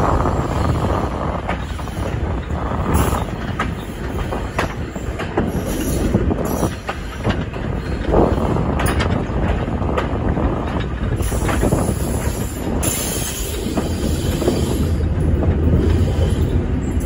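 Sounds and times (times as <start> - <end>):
train rumble: 0.0 - 17.0
wheels knocking at rail joints: 0.0 - 17.0.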